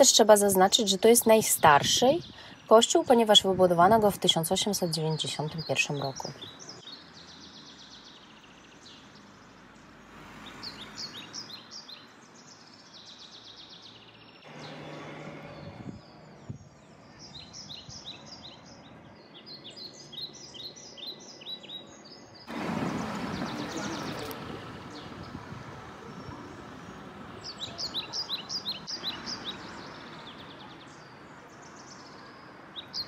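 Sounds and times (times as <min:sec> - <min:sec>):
outdoor background noise: 0:00.0 - 0:33.0
small birds chirping: 0:00.0 - 0:33.0.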